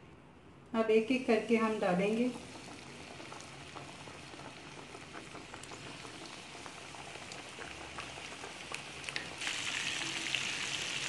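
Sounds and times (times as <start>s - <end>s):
hot oil bubbling and crackling: 1.1s - 11.0s
chicken sizzling in oil: 1.7s - 11.0s.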